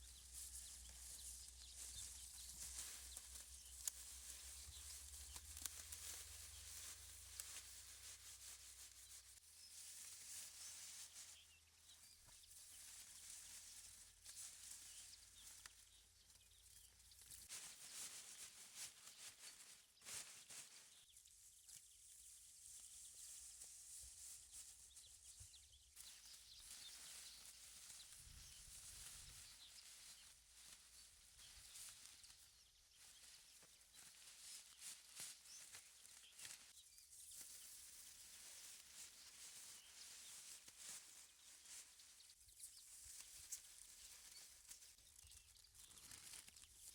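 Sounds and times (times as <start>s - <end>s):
faint clicks and rustles: 0.0s - 46.9s.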